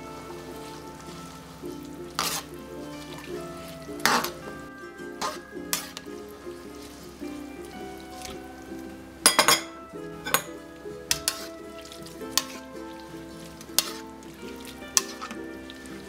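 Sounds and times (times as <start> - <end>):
background music: 0.0 - 16.0
ladle clinking against metal pot: 0.0 - 16.0.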